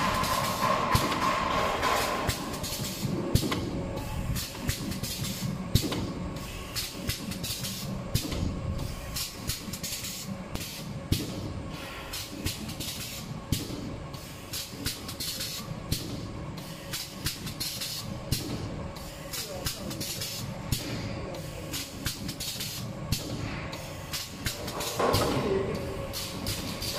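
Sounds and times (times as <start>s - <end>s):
machine clicks and clacks: 0.0s - 11.5s, 12.1s - 26.9s
machine humming: 0.0s - 26.9s.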